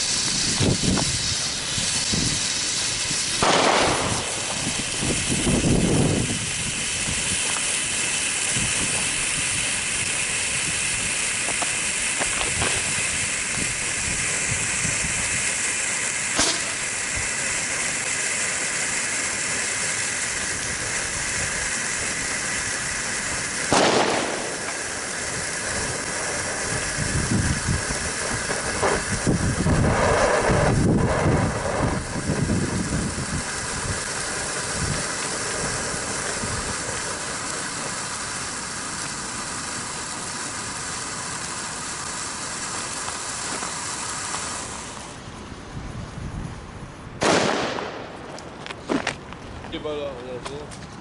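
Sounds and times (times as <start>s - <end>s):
fireworks bangs: 0.0s - 45.2s, 47.2s - 50.7s
fireworks hissing and crackling: 0.0s - 51.0s.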